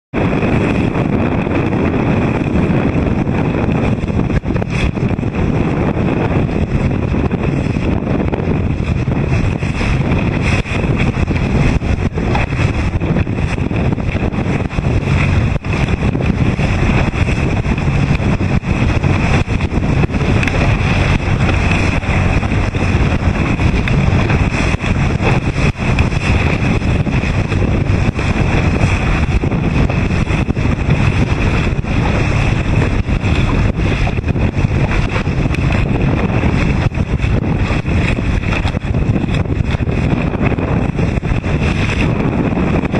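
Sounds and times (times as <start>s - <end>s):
boat engine drone: 0.1s - 42.9s
choppy water rushing: 0.1s - 42.9s
wind buffeting microphone: 0.1s - 42.9s.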